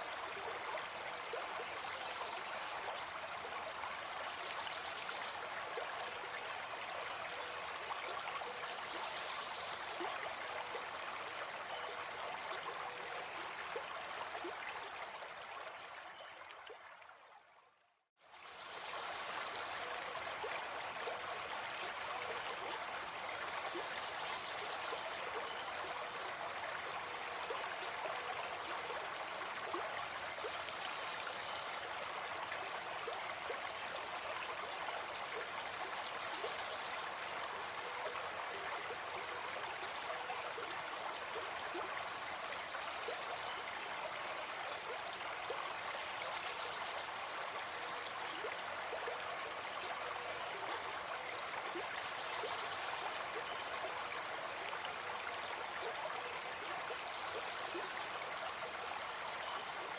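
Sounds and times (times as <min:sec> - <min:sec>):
stream water bubbling and trickling: 0:00.0 - 0:59.9.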